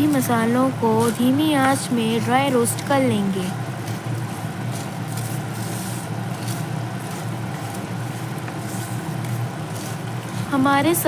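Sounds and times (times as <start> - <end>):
low mechanical hum: 0.0 - 11.0
spices scraping in a pan: 0.0 - 11.0.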